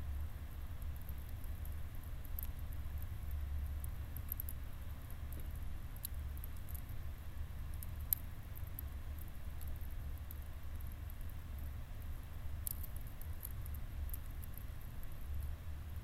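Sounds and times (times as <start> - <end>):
low steady rumble: 0.0 - 16.0
campfire crackles and pops: 0.4 - 16.0.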